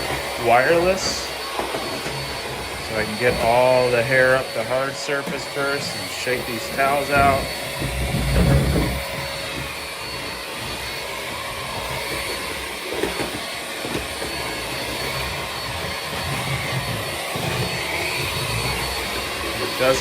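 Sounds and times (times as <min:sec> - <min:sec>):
cordless vacuum running: 0:00.0 - 0:20.0
vacuum nozzle bumps: 0:00.0 - 0:20.0.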